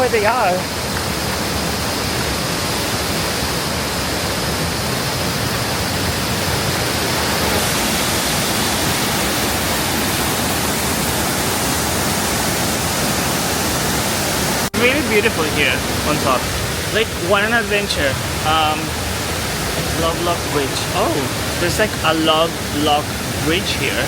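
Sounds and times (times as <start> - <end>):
waterfall crashing: 0.0 - 24.0.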